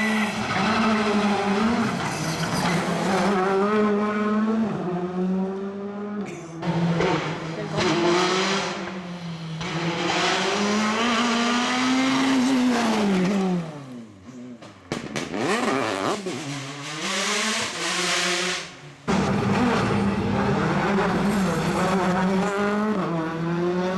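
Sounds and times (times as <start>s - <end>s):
rally car passing at full throttle: 0.0s - 23.9s
rally car revving through gears: 0.0s - 23.9s.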